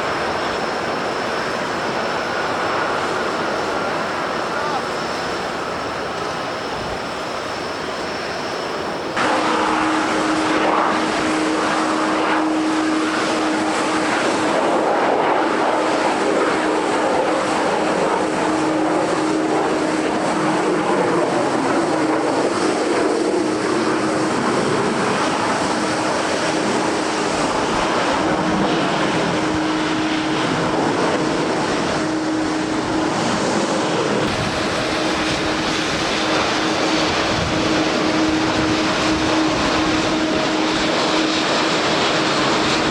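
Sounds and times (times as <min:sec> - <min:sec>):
airliner engines humming: 0:00.0 - 0:42.9
wind and rain noise: 0:00.0 - 0:42.9.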